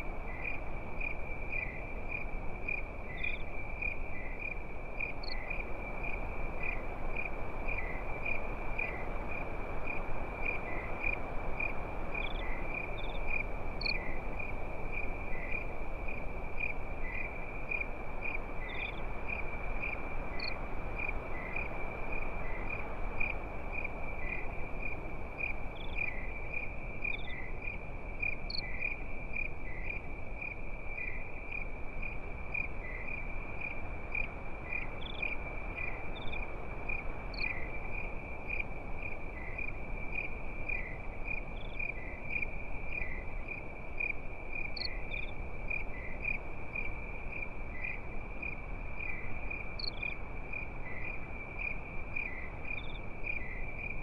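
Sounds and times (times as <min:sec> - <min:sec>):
crickets trilling: 0:00.0 - 0:54.0
rushing background hiss: 0:00.0 - 0:54.0.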